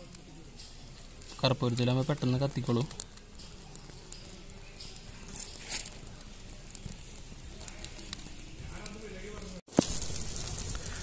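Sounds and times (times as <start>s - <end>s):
palm fronds crackling in fire: 0.0s - 11.0s.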